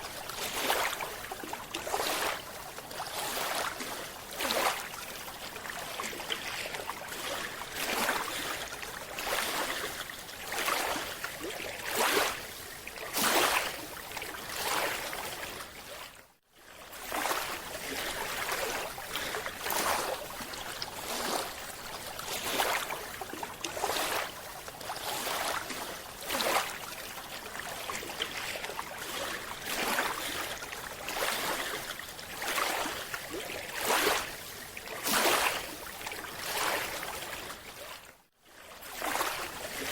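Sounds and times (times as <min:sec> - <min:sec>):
water rushing and sloshing: 0:00.0 - 0:39.9.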